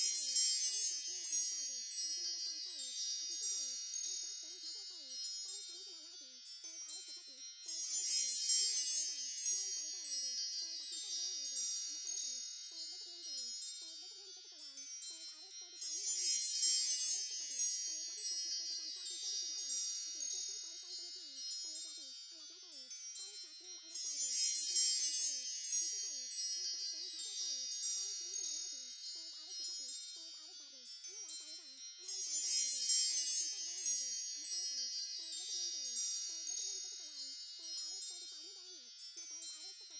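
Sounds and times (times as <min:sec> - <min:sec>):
wind chimes tinkling: 0:00.0 - 0:39.9.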